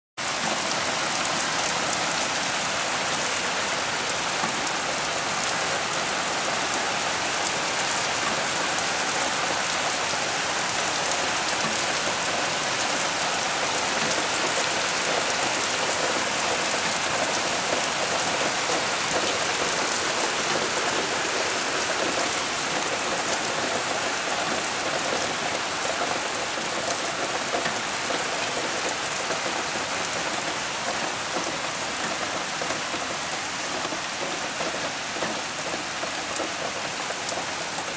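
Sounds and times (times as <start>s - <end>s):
heavy rain on wooden deck: 0.2s - 37.9s.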